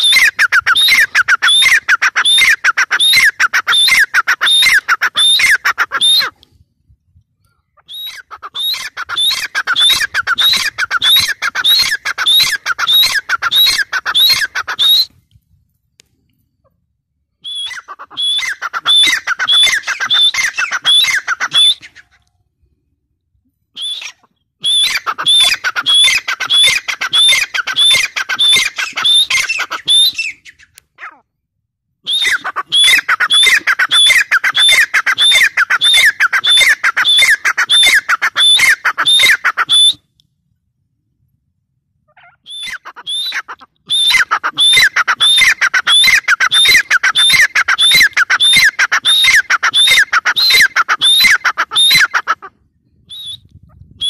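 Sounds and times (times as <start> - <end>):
francolin calling: 0.0 - 6.4, 7.6 - 15.2, 17.4 - 22.2, 23.8 - 31.2, 32.1 - 40.0, 42.1 - 52.4.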